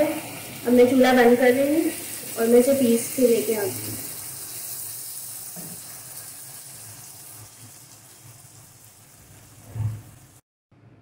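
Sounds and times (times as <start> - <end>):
masala sizzling in a pan: 0.0 - 10.4.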